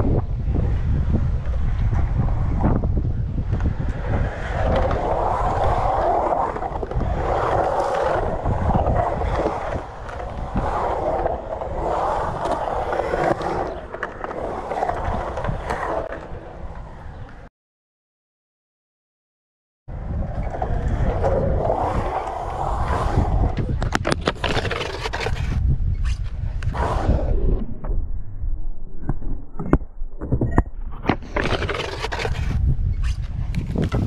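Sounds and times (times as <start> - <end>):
skateboard wheels rolling on concrete: 0.0 - 17.5, 19.9 - 34.0
wind rumble on microphone: 0.0 - 17.5, 19.9 - 34.0.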